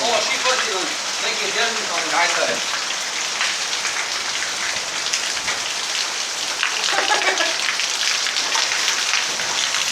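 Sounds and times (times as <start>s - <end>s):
steady rain falling: 0.0s - 9.9s.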